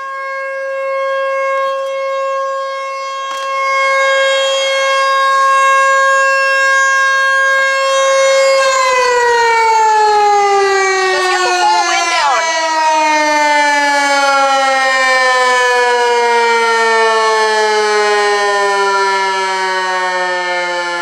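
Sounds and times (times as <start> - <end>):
outdoor warning siren steady tone: 0.0 - 21.0.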